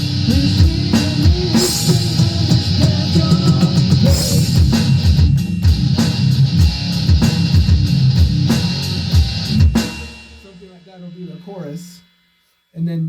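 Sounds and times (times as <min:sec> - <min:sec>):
rock guitar: 0:00.0 - 0:10.5
drum kit: 0:00.0 - 0:12.2.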